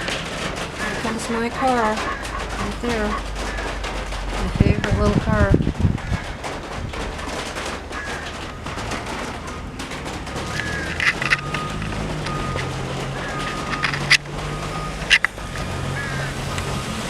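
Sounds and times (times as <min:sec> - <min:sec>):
sharp clicks: 0:00.0 - 0:16.8
low engine hum: 0:00.0 - 0:17.0.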